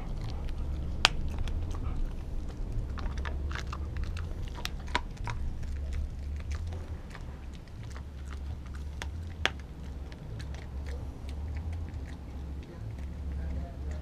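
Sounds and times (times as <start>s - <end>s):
dog chewing raw meat: 0.0s - 14.0s
low steady rumble: 0.0s - 14.0s.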